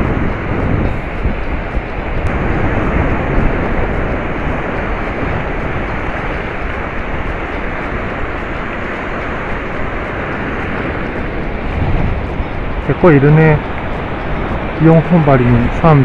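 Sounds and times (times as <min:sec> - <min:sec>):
surf breaking on sandy beach: 0:00.0 - 0:16.0
wind rumbling on microphone: 0:00.0 - 0:16.0.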